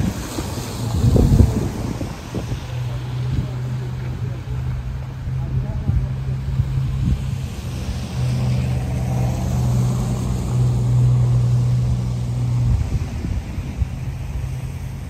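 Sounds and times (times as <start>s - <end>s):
low engine hum: 0.0s - 15.0s
tyre hiss of passing vehicle: 0.0s - 15.0s.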